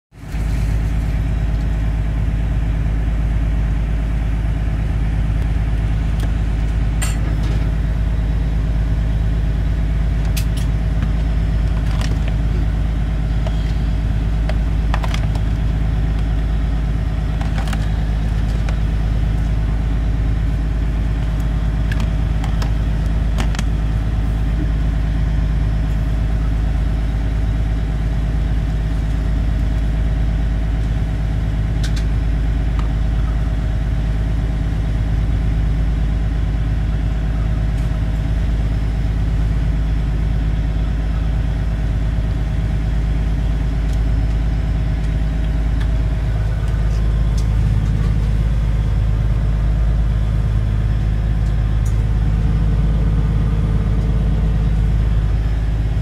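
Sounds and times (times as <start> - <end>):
boat engine drone: 0.1 - 56.0.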